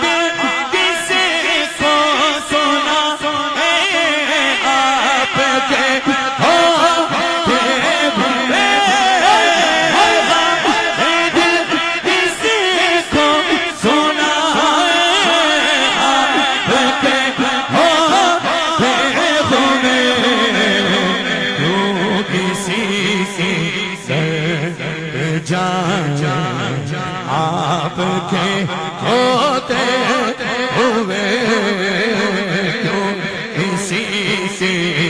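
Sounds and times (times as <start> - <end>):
person singing devotional song: 0.0 - 35.0.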